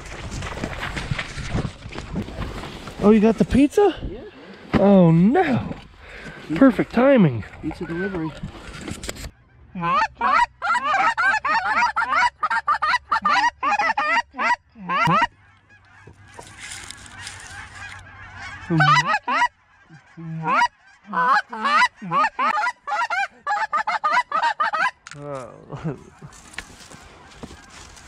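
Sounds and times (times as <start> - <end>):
geese honking and clucking: 4.3 - 25.2, 25.8 - 28.0.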